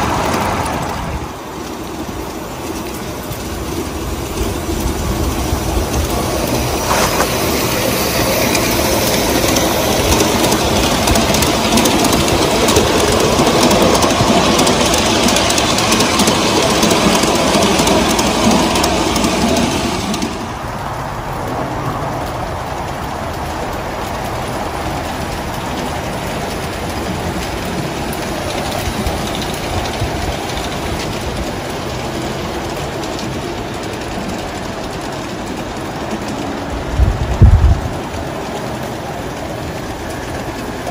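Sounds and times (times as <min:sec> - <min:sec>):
model train wheels rumbling: 0:00.0 - 0:40.9.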